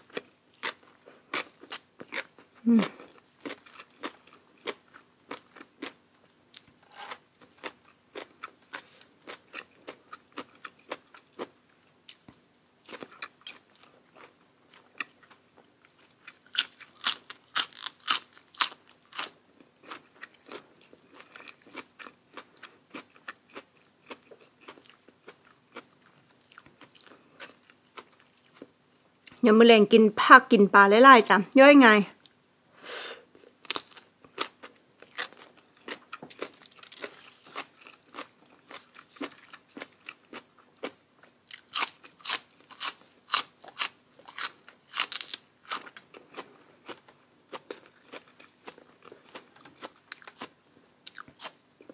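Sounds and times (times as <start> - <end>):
chewing and crunching food: 0.0 - 29.4, 33.3 - 51.9.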